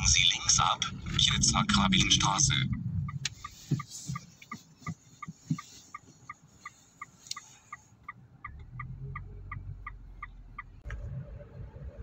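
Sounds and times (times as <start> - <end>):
engine and road noise: 0.0 - 12.0
turn signal ticking: 0.0 - 12.0.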